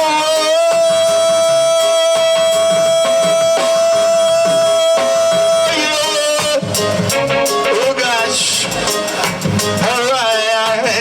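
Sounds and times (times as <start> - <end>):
reggae band playing: 0.0 - 11.0
drum hits: 0.7 - 11.0.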